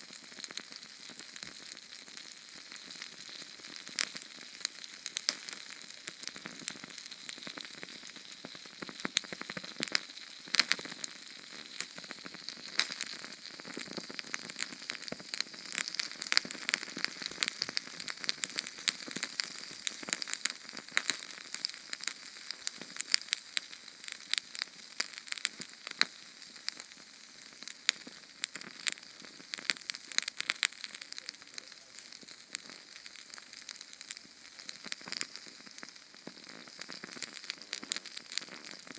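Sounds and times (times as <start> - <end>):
small flame hissing and crackling: 0.0 - 38.9.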